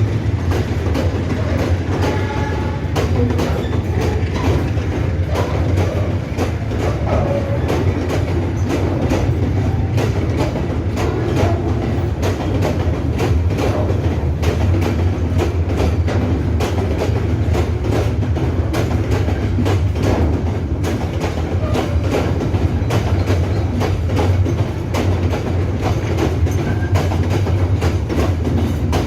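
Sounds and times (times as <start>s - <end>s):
freight train rumbling past: 0.0s - 29.0s
wheels clicking over rail joints: 0.0s - 29.0s.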